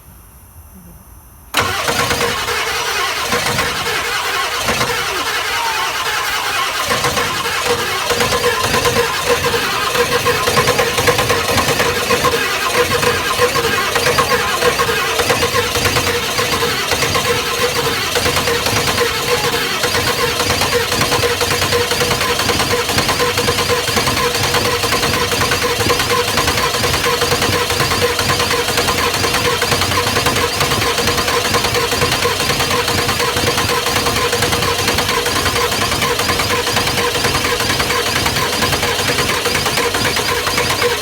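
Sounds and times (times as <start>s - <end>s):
diesel engine cranking: 1.6s - 41.0s.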